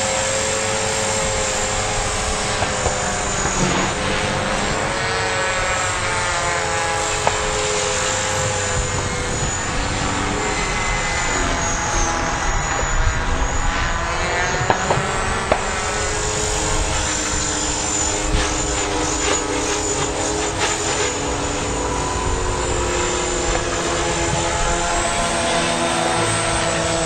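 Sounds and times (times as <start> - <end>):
model helicopter motor whine: 0.0 - 27.0.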